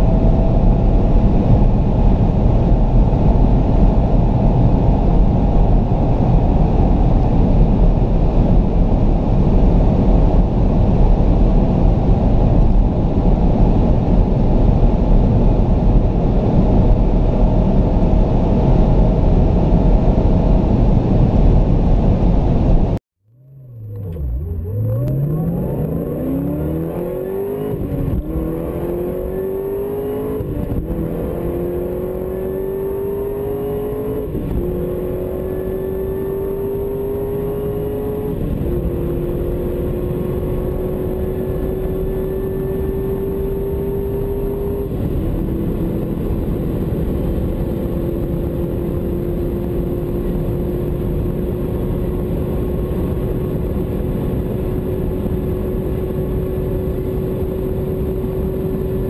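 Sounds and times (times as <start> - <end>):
car engine accelerating with upshifts: 0.0 - 59.0.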